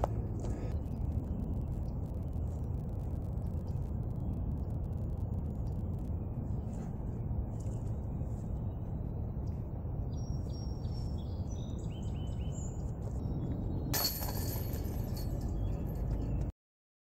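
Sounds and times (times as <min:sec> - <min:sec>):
small birds singing: 0:00.0 - 0:16.5
wind rumble on microphone: 0:00.0 - 0:16.5.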